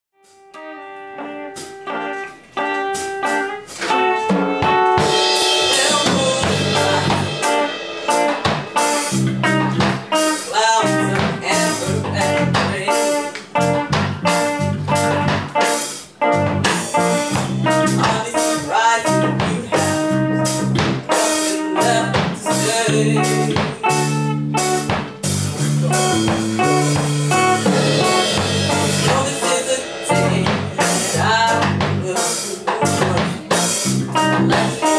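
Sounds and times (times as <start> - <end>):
bass guitar: 0.2 - 34.9
drum kit beat: 0.2 - 34.9
sparse guitar notes: 0.2 - 34.9.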